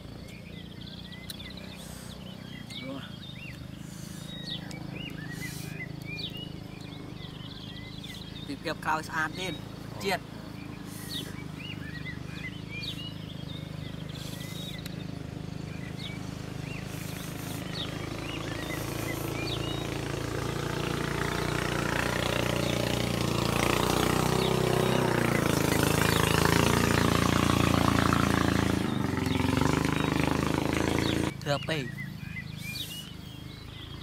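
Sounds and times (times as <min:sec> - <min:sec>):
bird chirps: 0:00.0 - 0:34.0
motor engine running: 0:00.0 - 0:34.0.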